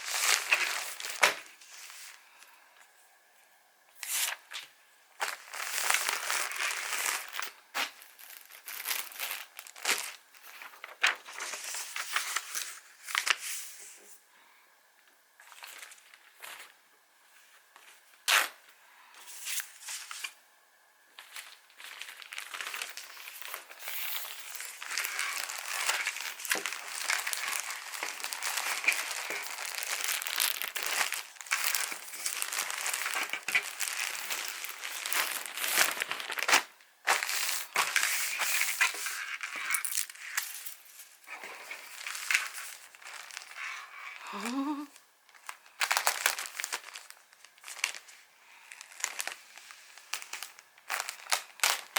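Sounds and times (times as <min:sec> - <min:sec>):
packaging crinkling and rustling: 0:00.0 - 0:02.5, 0:04.0 - 0:14.0, 0:15.4 - 0:16.8, 0:19.2 - 0:20.4, 0:21.1 - 0:51.9.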